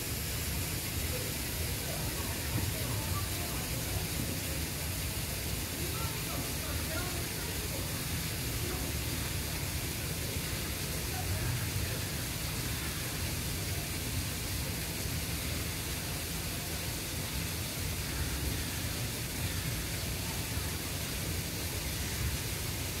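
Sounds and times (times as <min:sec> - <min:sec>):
even hiss: 0:00.0 - 0:23.0.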